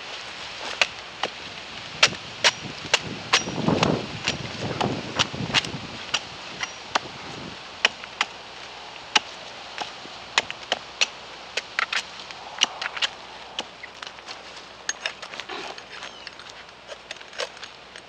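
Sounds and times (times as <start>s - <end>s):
rough scraping of bark: 0.0s - 18.0s
hand tool chipping bark: 2.0s - 18.0s.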